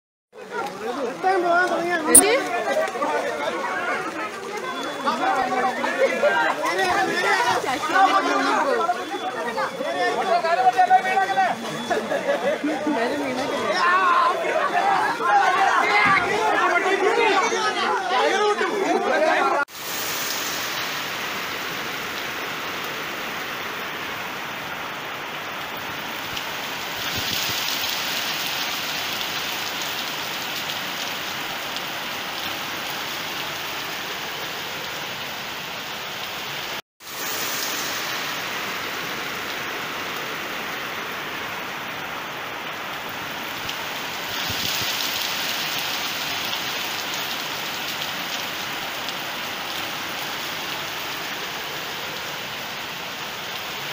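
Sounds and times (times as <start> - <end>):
heavy rain pouring: 0.4 - 53.9.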